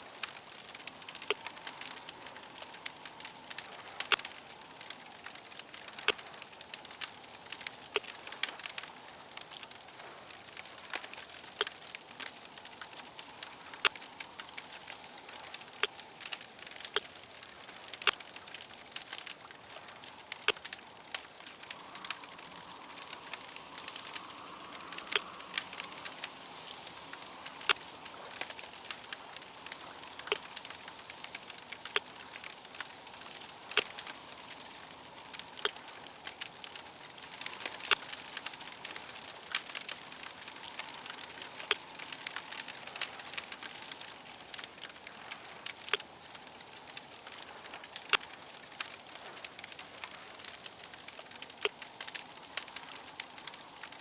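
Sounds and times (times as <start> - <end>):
fire crackling: 0.0 - 54.0.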